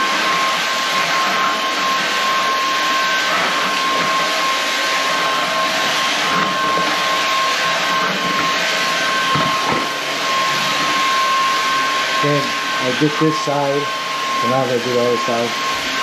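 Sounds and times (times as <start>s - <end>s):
stick vacuum running: 0.0s - 16.0s.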